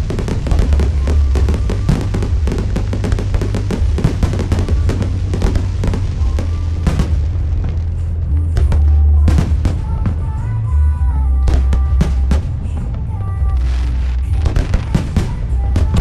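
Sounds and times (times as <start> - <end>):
fireworks popping and crackling: 0.0 - 16.0
music with heavy bass: 0.0 - 16.0.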